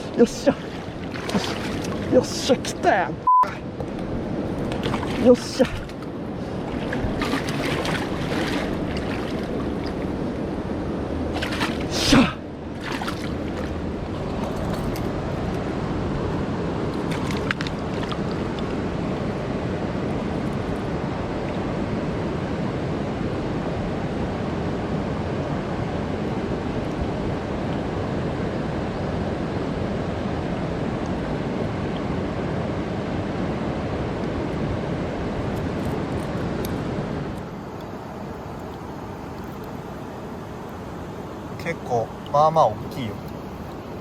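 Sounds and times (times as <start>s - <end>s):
fast-flowing river rushing: 0.0s - 37.4s.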